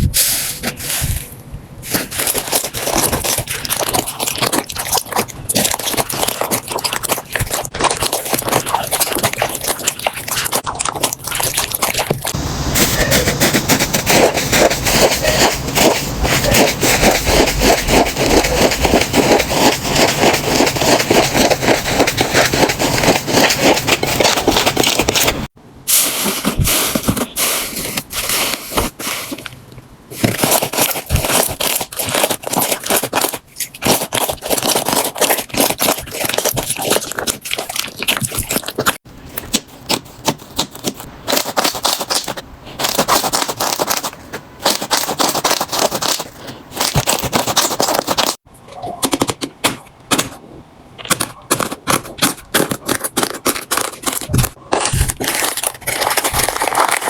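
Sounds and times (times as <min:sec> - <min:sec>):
slime crackling and popping: 0:01.9 - 0:25.5, 0:30.3 - 0:48.4, 0:51.1 - 0:57.0.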